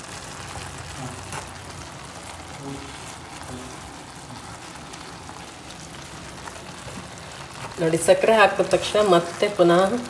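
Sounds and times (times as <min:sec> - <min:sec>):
faint sizzle: 0:00.0 - 0:10.0.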